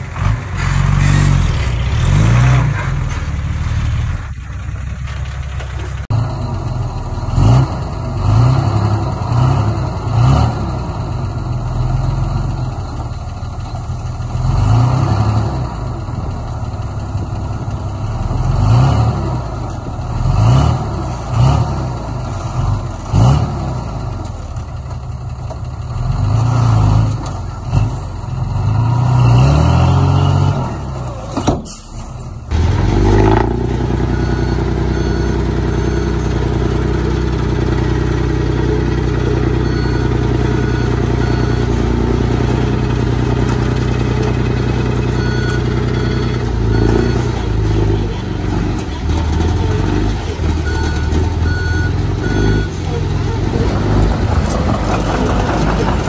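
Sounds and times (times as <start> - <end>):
heavy machinery diesel engine revving: 0.0 - 56.0.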